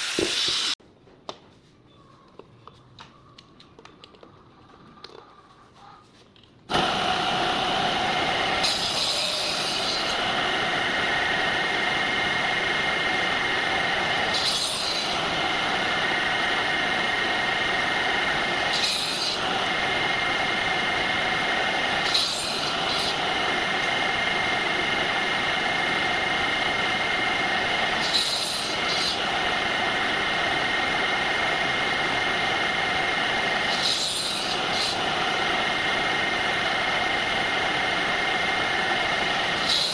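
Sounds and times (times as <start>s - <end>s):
tool hissing on wood: 0.0s - 0.8s, 6.7s - 39.9s
electric power tool running: 6.7s - 39.9s.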